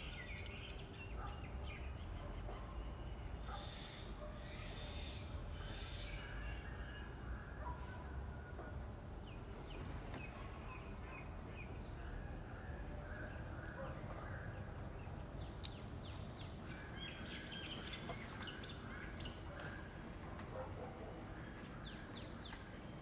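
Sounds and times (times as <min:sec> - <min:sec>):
birds chirping: 0:00.0 - 0:23.0
low steady hum: 0:00.0 - 0:23.0.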